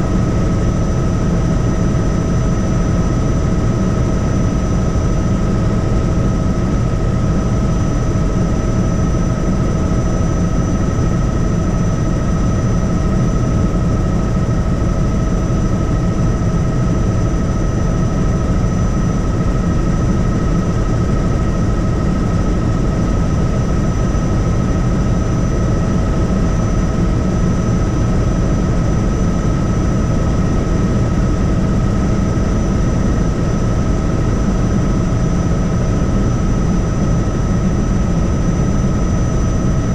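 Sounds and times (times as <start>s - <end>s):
helicopter rotor and engine noise: 0.0s - 39.9s.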